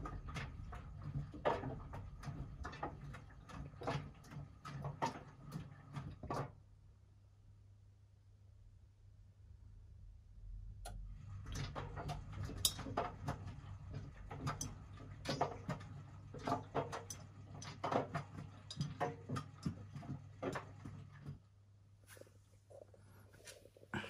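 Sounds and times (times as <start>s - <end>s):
washing machine motor hum: 0.0s - 7.0s, 9.6s - 21.9s.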